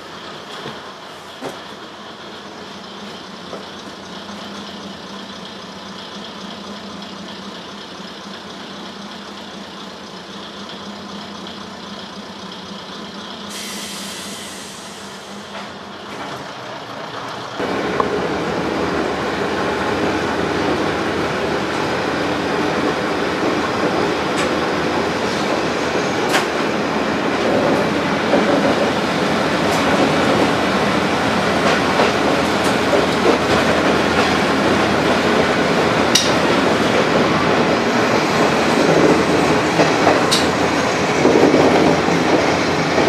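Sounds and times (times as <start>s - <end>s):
diesel railcar engine idling: 0.0s - 43.0s.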